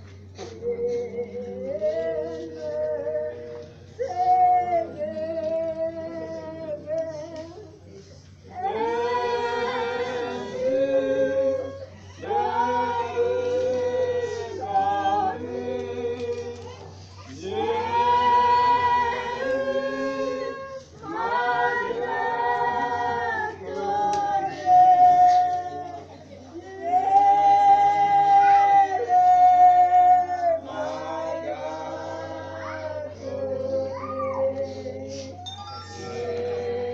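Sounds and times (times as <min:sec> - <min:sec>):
group singing a hymn unaccompanied: 0:00.0 - 0:35.4, 0:36.0 - 0:36.9.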